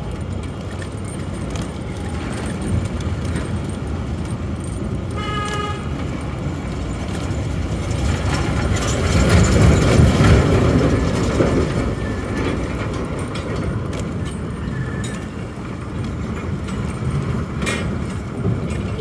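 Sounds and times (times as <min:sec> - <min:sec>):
rattling clicks: 0:00.0 - 0:19.0
traffic rumble: 0:00.0 - 0:19.0.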